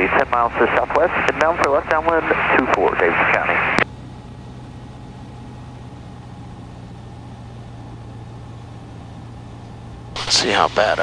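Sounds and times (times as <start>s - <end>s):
airplane engine humming: 0.0s - 11.0s.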